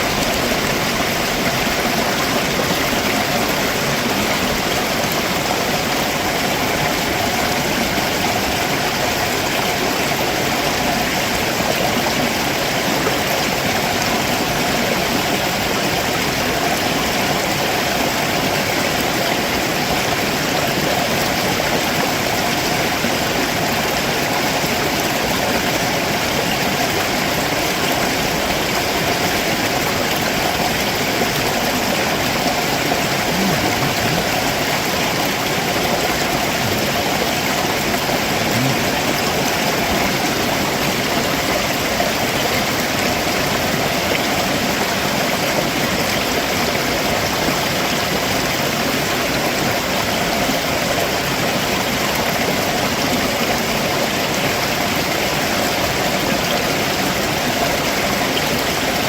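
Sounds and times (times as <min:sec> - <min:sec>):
water rushing over stones: 0:00.0 - 0:59.0.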